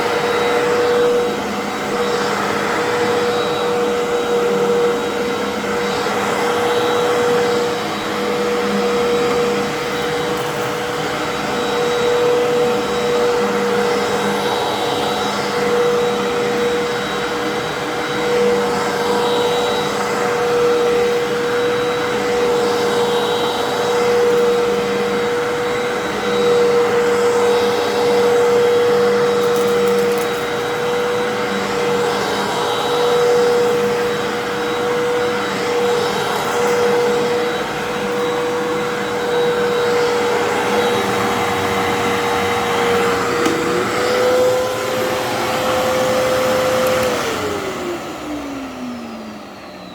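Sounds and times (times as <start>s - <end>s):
vacuum cleaner on carpet: 0.0s - 49.9s.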